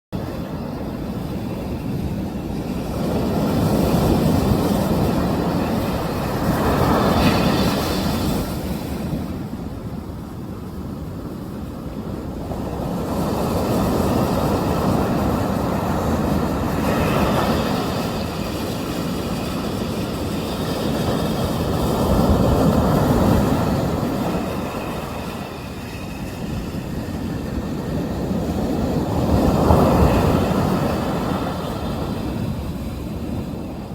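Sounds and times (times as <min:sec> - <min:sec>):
waves breaking on shore: 0:00.2 - 0:33.9.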